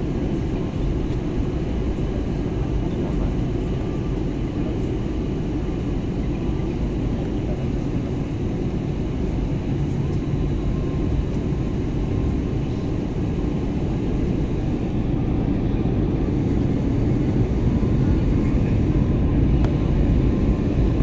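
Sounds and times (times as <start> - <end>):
airliner cabin engine noise: 0.0 - 21.0.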